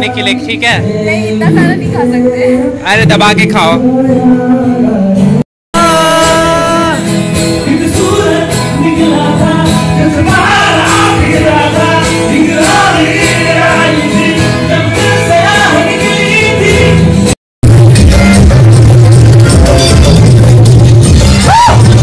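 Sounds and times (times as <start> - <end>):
man singing: 0.0 - 18.7, 19.3 - 22.0
acoustic guitar strumming: 0.0 - 22.0.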